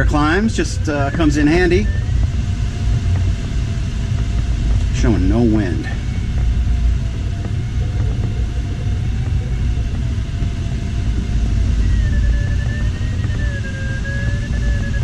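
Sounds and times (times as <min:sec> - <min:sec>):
faint wavering thin tone: 0:00.0 - 0:15.0
higher tone: 0:00.0 - 0:15.0.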